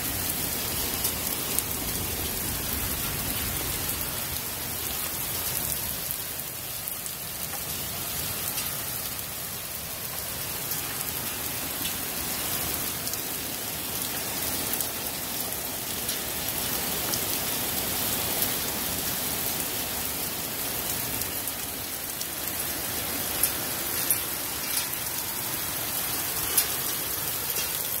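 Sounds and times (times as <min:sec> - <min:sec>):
hail and rain pelting down: 0:00.0 - 0:28.0.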